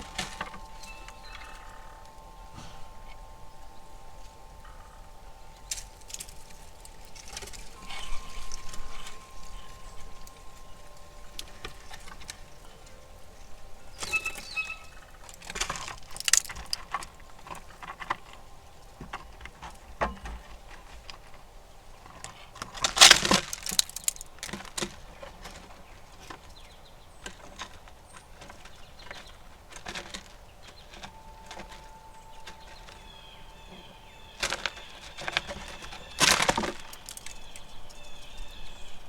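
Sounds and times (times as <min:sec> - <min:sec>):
squirrels scraping and clicking: 0:00.0 - 0:39.0.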